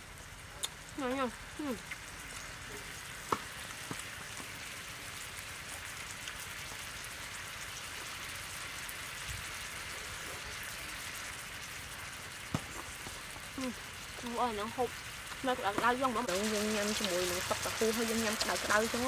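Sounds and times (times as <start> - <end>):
meat and vegetables sizzling: 0.0 - 19.0.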